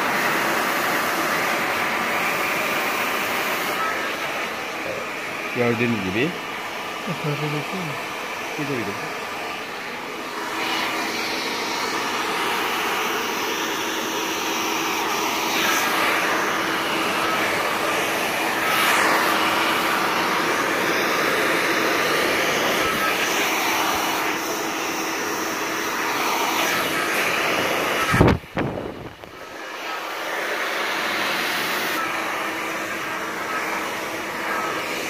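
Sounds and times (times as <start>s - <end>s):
hair dryer blowing: 0.0s - 35.0s.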